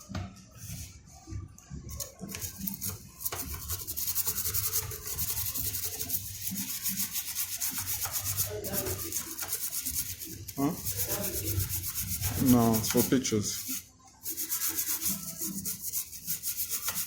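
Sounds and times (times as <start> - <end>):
rapid scrubbing: 2.4 - 17.0.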